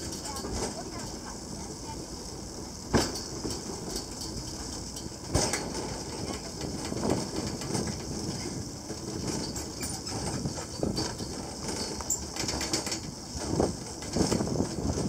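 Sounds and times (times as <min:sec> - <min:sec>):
funicular car rumbling and rattling: 0:00.0 - 0:15.0.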